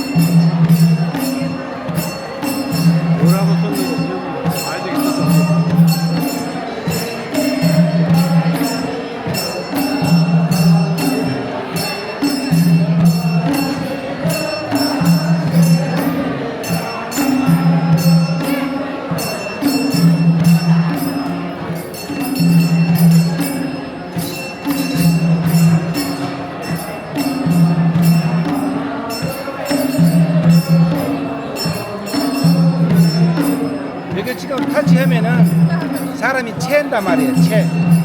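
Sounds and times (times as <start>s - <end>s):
jingling percussion: 0.0s - 38.0s.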